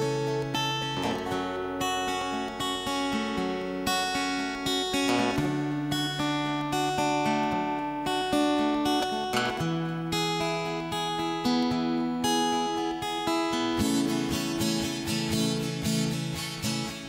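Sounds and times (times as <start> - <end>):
acoustic guitar instrumental: 0.0 - 17.0.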